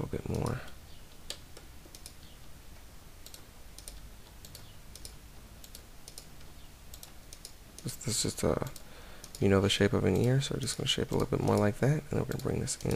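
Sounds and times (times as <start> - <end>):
faint low hum: 0.0 - 12.9
keyboard and mouse clicks: 0.2 - 2.4, 3.2 - 7.9, 8.6 - 9.5, 10.1 - 12.9.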